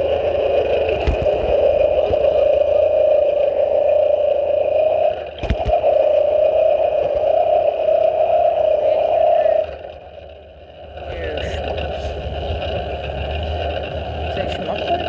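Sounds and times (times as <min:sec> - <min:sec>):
buzzy bicycle engine: 0:00.0 - 0:15.0.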